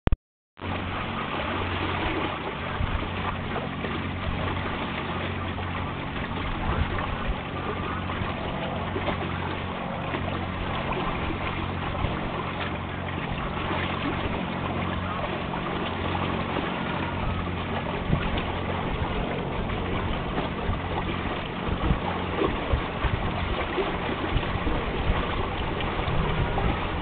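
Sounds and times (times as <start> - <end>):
low hum: 0.6 - 27.0
water rushing along hull: 0.6 - 27.0
wind on microphone: 0.6 - 27.0.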